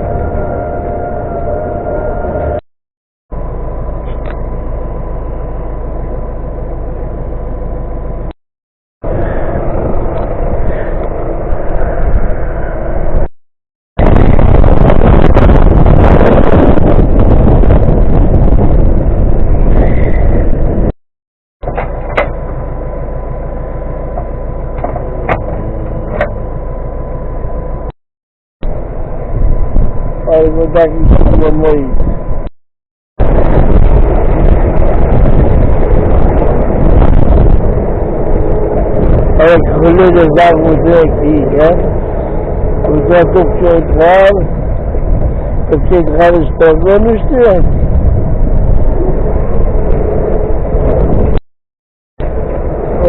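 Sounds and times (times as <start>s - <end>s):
motor vehicle rumbling: 0.0s - 2.6s, 3.3s - 8.4s, 9.0s - 13.3s, 14.0s - 21.0s, 21.6s - 27.9s, 28.6s - 32.5s, 33.2s - 51.4s, 52.2s - 53.0s
steady whine: 0.0s - 2.6s, 3.3s - 8.4s, 9.0s - 13.3s, 14.0s - 21.0s, 21.6s - 27.9s, 28.6s - 32.5s, 33.2s - 51.4s, 52.2s - 53.0s.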